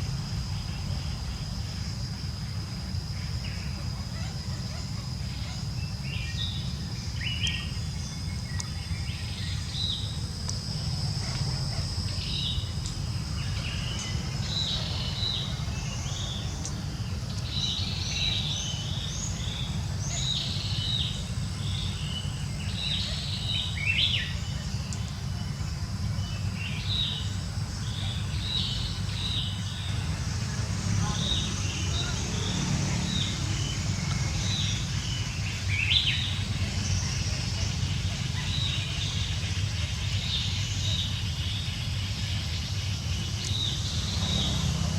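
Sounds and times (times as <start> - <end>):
low outdoor rumble: 0.0 - 44.9
small birds chirping: 0.0 - 44.9
thin steady high buzz: 0.0 - 44.9.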